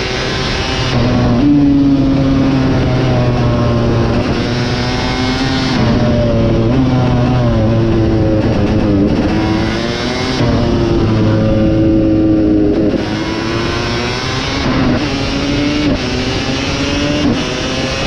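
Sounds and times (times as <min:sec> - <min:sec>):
motocross engine revving high: 0:00.0 - 0:18.0.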